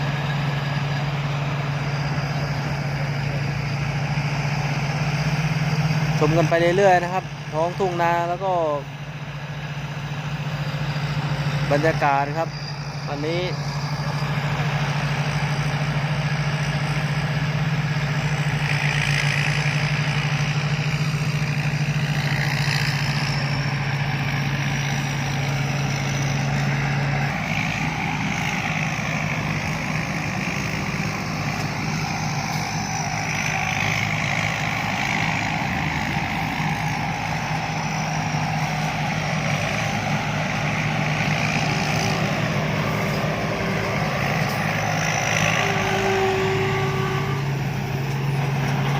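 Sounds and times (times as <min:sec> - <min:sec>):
harvester diesel engine running: 0:00.0 - 0:48.9
machinery noise: 0:00.0 - 0:48.9.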